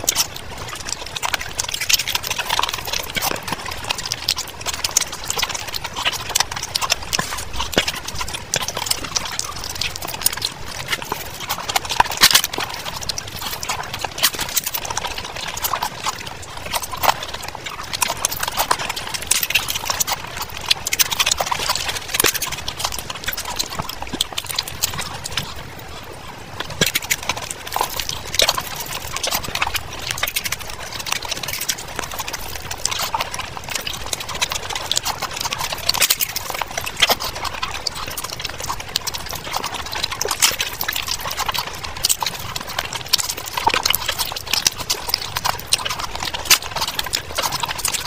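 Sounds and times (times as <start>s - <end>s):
chewing and lip-smacking: 0.0s - 48.0s.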